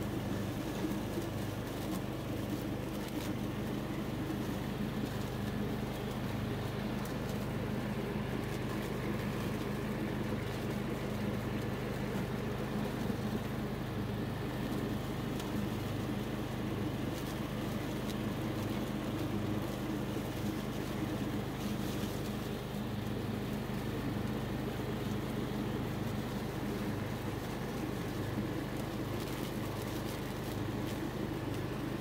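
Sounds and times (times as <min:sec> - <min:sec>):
engine humming steadily: 0:00.0 - 0:32.0.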